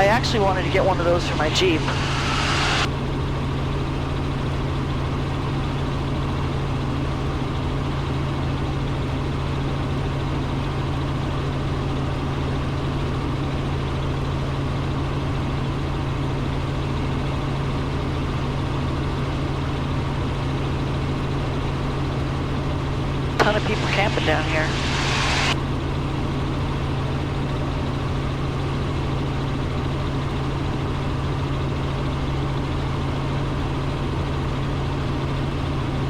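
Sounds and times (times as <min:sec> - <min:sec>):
helicopter rotor and engine drone: 0:00.0 - 0:36.0.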